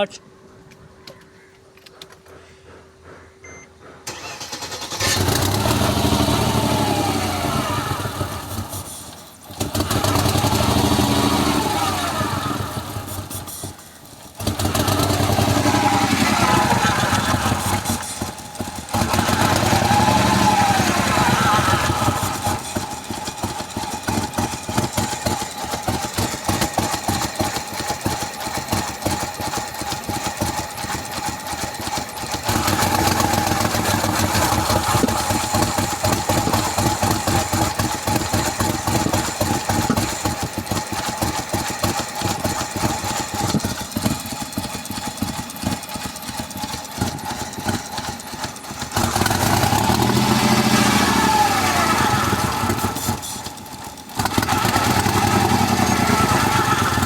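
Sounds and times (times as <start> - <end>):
car engine idling roughly: 1.9 - 57.0.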